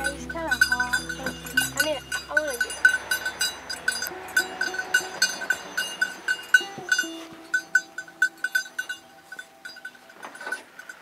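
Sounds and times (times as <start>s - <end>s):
dog collar bell jingling: 0.0s - 11.0s.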